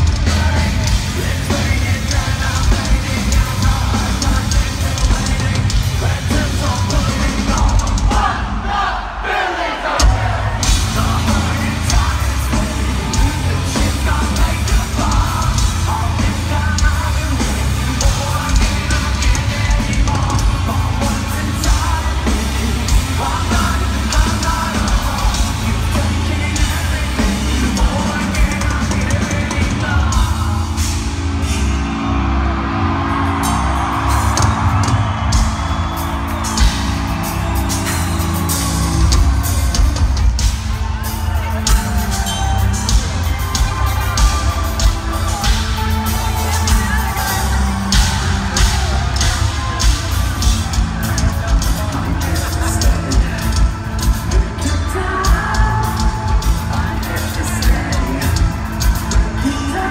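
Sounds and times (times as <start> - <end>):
distorted guitars and bass: 0.0 - 8.6, 10.0 - 59.9
shouted sung vocals: 0.0 - 31.0, 31.7 - 59.9
pounding drum kit: 0.0 - 59.9.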